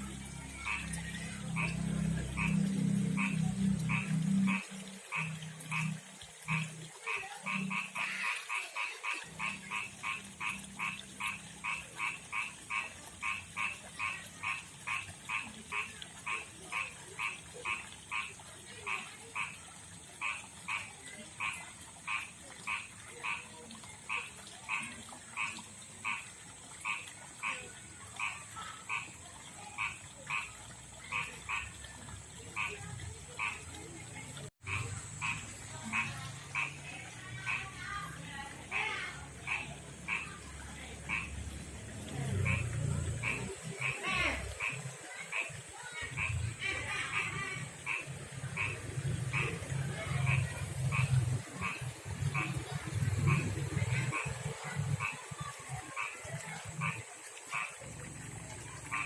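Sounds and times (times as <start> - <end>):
frog croaking: 0.1 - 59.0.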